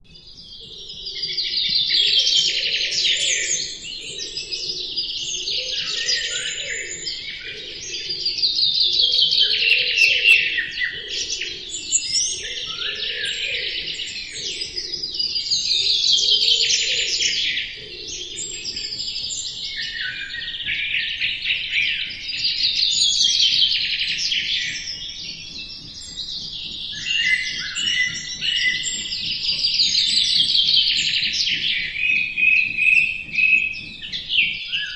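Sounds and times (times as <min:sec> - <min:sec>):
birds singing chirps and trills: 0:00.0 - 0:34.9
soft bird chirping: 0:00.1 - 0:34.9.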